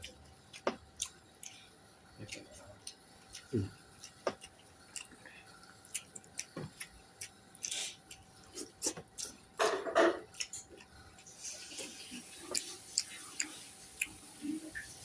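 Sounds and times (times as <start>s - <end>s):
person chewing with mouth smacks: 0.0s - 9.4s, 10.2s - 14.9s.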